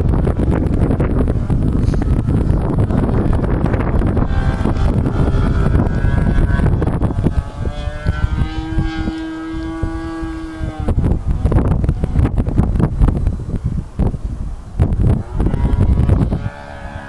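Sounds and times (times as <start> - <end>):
model aircraft engine droning: 0.0 - 17.0
wind buffeting microphone: 0.0 - 17.0.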